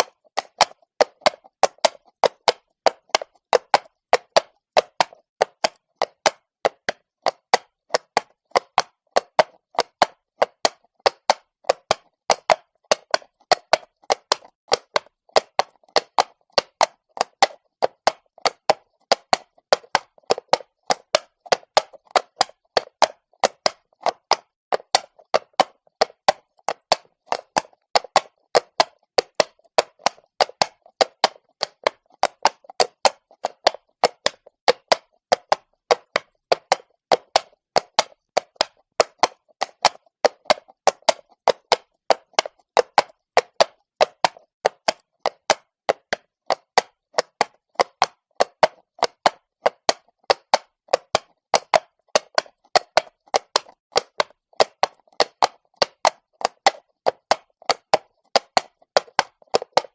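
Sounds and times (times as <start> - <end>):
horse hooves on cobbles: 0.0 - 59.9.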